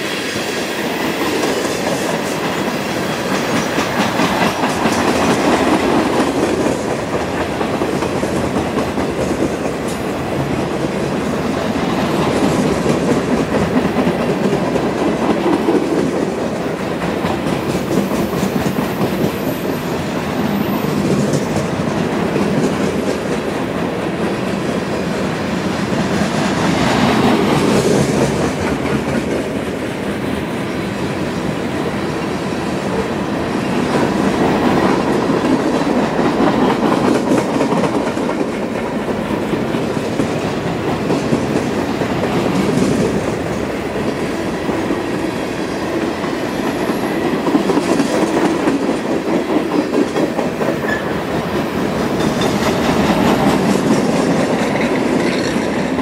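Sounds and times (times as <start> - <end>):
train wheels rumbling on rails: 0.0 - 56.0
clickety-clack over rail joints: 1.1 - 30.3, 32.6 - 56.0.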